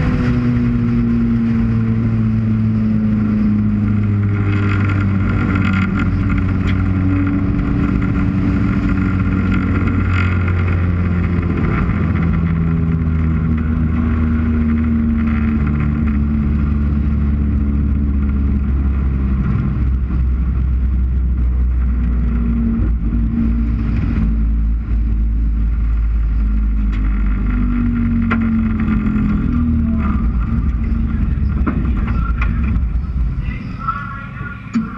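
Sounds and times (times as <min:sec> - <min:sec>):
race car engine at low revs: 0:00.0 - 0:34.9.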